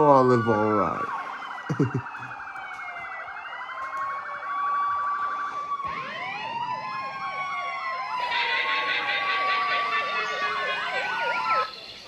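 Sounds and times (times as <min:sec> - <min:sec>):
sirens yelping and wailing: 0:00.0 - 0:12.0.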